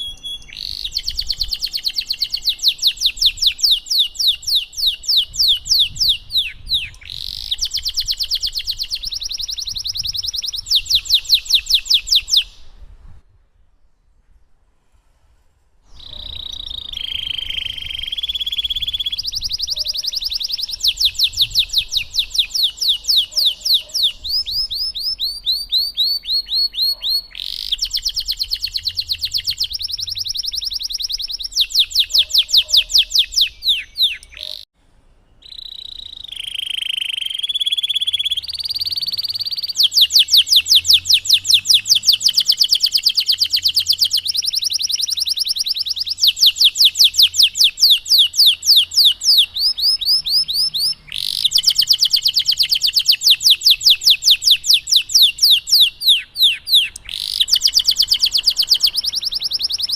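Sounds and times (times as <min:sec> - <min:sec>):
canary singing: 0:00.0 - 0:12.8, 0:15.9 - 0:34.7, 0:35.4 - 0:59.9.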